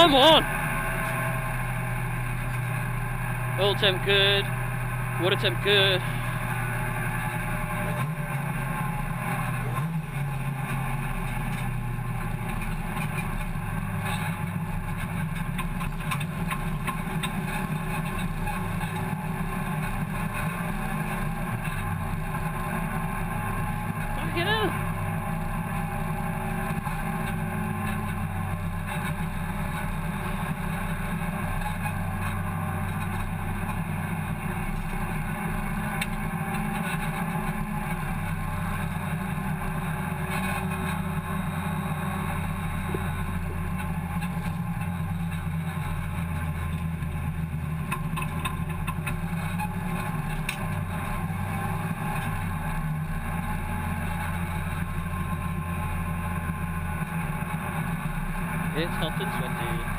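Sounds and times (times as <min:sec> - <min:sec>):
race car engine from cabin: 0:00.0 - 0:59.9
road and cabin noise: 0:00.0 - 0:59.9.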